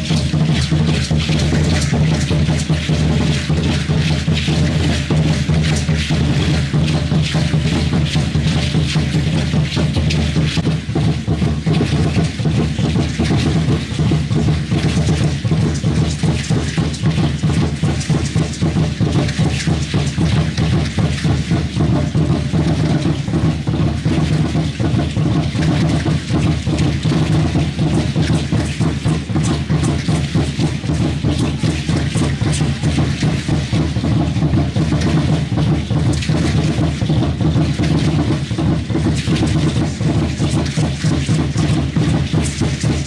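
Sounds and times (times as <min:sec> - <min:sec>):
ankle rattles shaking: 0:00.0 - 0:43.0
fast steady drumming: 0:00.0 - 0:43.0.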